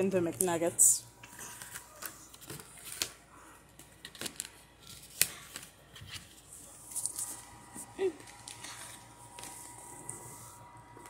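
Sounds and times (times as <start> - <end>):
cards rustling: 1.2 - 10.2.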